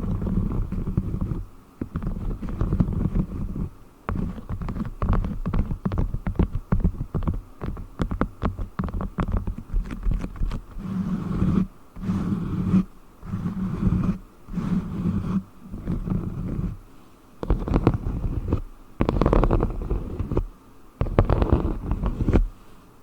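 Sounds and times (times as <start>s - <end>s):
rubbing and squeezing wax sheet: 0.0s - 16.8s, 17.4s - 22.6s.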